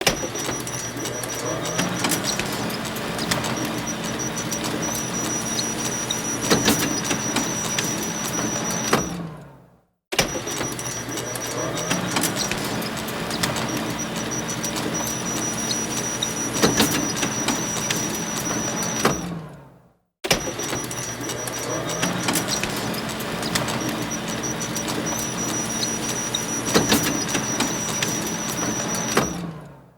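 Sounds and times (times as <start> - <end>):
photocopier clacks: 0.0 - 9.0, 10.2 - 19.1, 20.3 - 29.4
paper feed clicks: 0.0 - 9.1, 10.2 - 19.3, 20.3 - 29.7
photocopier whirring: 0.0 - 9.4, 10.4 - 19.6, 20.4 - 29.8.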